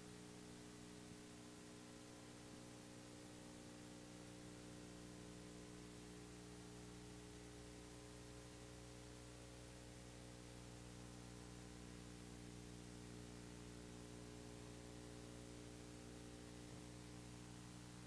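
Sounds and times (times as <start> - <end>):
low electrical hum: 0.0 - 18.0
steady hiss: 0.0 - 18.0.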